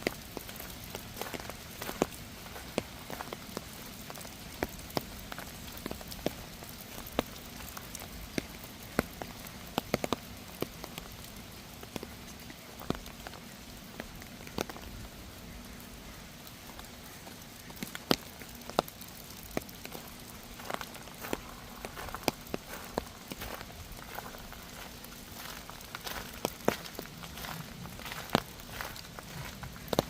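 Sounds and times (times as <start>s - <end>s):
raindrops tapping close by: 0.0s - 30.0s
steady rain: 0.0s - 30.0s.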